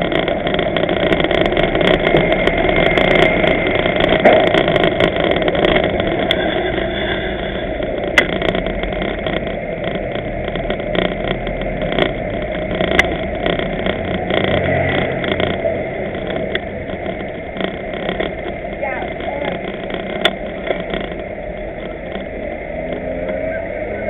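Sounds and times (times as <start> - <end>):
car engines in slow traffic: 0.0 - 24.0
sharp clicks: 0.0 - 24.0.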